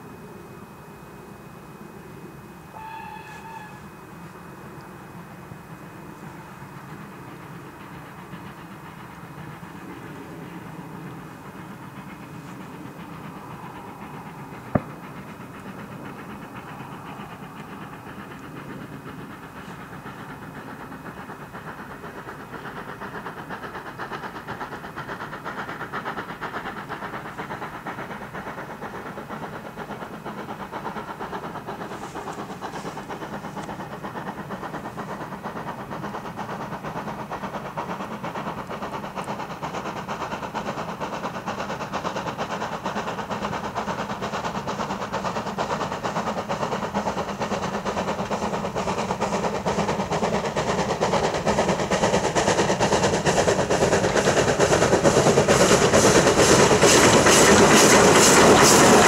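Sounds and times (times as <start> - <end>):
steam locomotive chuffing: 0.0 - 59.0.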